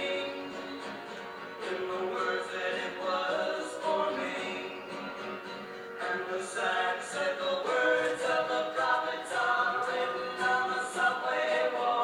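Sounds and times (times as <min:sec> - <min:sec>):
music with singing voices: 0:00.0 - 0:12.0.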